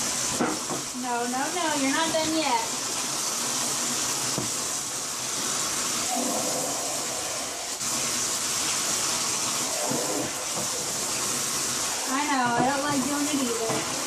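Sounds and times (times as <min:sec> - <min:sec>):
water running into a tub: 0:00.0 - 0:14.0.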